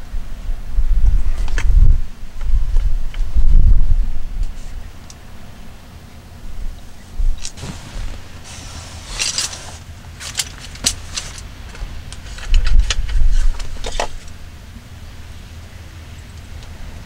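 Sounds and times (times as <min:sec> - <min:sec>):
rustle: 0:00.0 - 0:17.0
wind rumble on microphone: 0:00.0 - 0:17.0.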